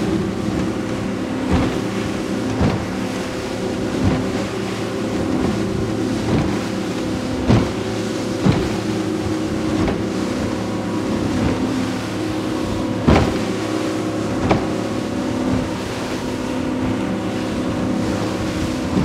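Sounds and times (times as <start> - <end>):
hull slapping on waves: 0.0 - 19.0
outboard engine drone: 0.0 - 19.0
rushing water and spray: 0.0 - 19.0.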